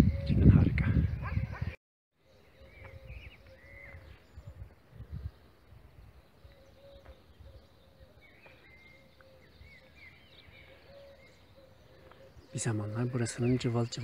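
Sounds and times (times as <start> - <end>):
birds chirping: 0.0 - 14.0
low repeated bird call: 0.0 - 14.0.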